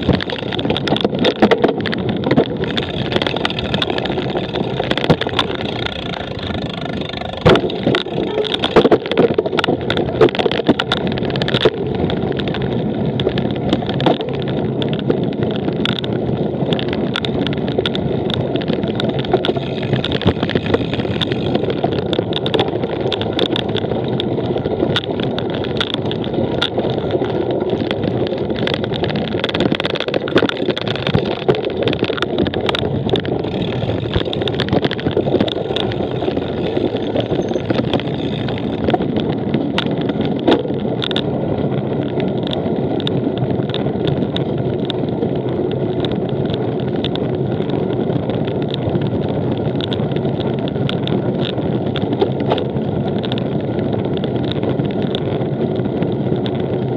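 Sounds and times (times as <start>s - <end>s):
bike rattling and clicking: 0.0s - 56.9s
bike tyres rumbling on rough ground: 0.0s - 56.9s.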